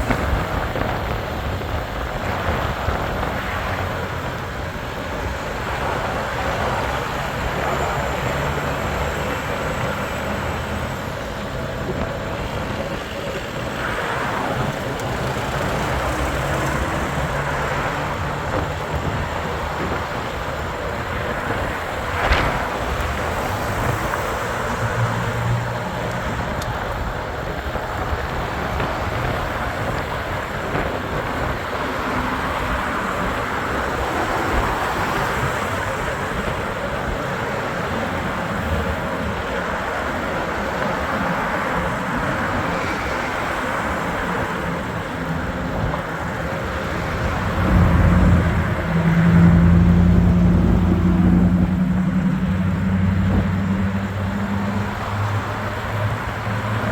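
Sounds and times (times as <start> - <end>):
road traffic noise: 0.0 - 56.9.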